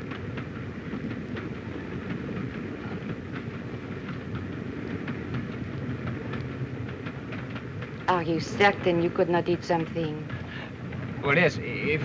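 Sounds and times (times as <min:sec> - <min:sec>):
train low rumble: 0:00.0 - 0:12.0
wheels clicking over rail joints: 0:00.0 - 0:12.0.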